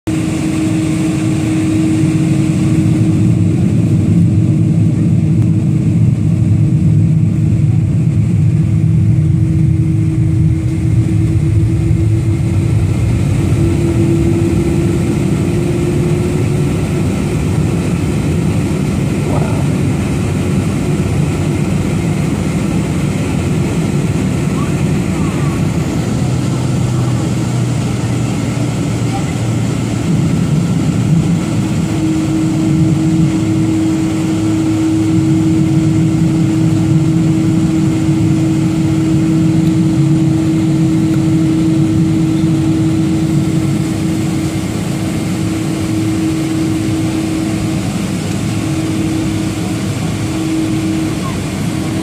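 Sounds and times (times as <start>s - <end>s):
jet engines rumbling: 0.1s - 52.0s.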